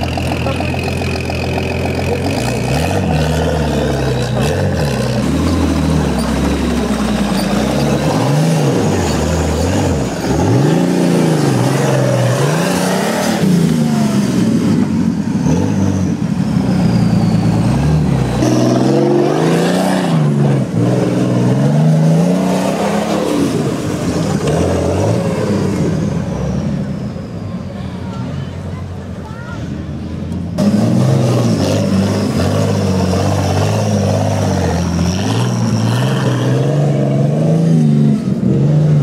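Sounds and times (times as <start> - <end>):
buggy engine revving: 0.0 - 27.8, 29.8 - 39.0.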